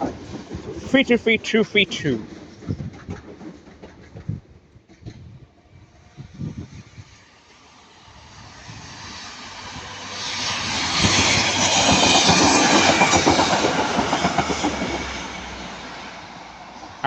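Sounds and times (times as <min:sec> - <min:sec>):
train wheels clicking over rails: 0:00.0 - 0:05.4, 0:07.3 - 0:17.0.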